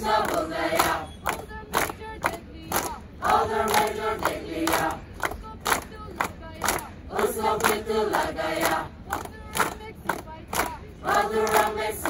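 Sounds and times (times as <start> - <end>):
group singing and shouting: 0.0 - 12.0.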